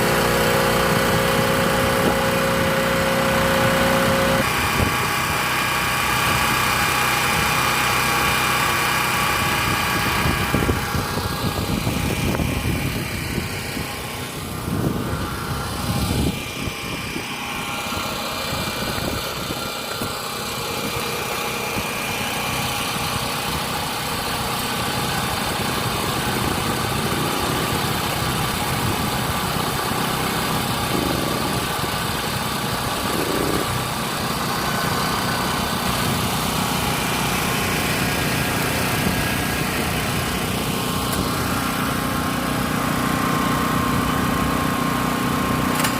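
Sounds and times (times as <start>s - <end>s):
generator engine running: 0.0s - 45.9s.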